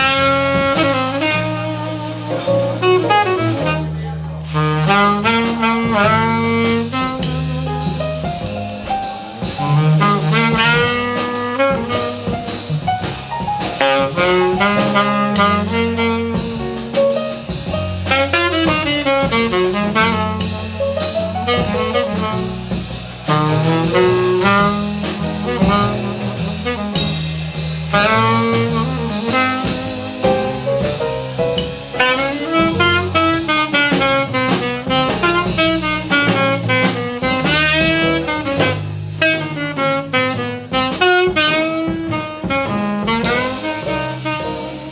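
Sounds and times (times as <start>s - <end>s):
bass notes: 0.0s - 44.9s
drum kit with cymbals: 0.0s - 44.9s
saxophone melody: 0.0s - 44.9s.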